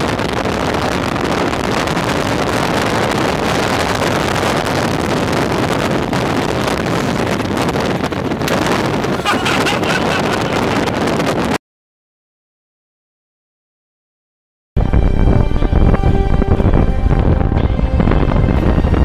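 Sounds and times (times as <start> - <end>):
road noise: 0.0 - 11.5, 14.8 - 19.0
wind buffeting microphone: 0.0 - 11.6, 14.8 - 19.0.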